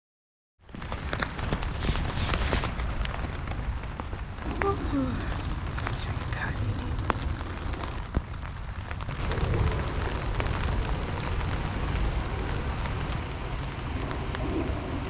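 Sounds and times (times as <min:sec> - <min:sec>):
low wind rumble: 0:00.6 - 0:15.0
rain pattering on a tent: 0:00.6 - 0:15.0.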